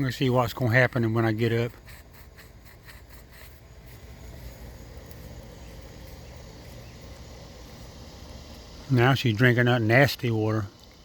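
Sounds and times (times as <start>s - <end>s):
insects chirping faintly: 0.0s - 11.0s
low steady background noise: 0.0s - 11.0s.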